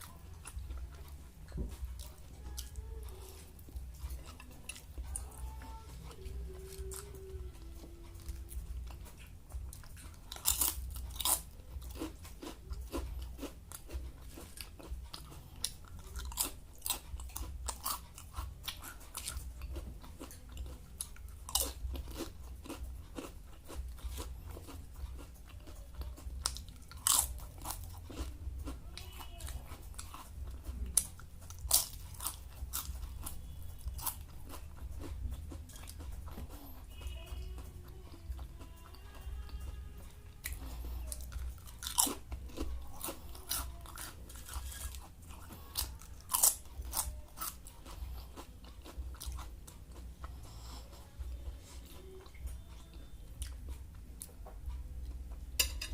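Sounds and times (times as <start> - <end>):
chewing crunchy fried food: 0.0 - 55.9.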